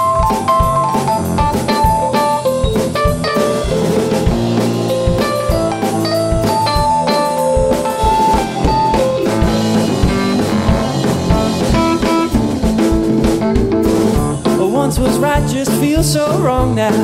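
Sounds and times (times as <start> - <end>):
drum kit beat: 0.0 - 17.0
electric piano: 0.0 - 17.0.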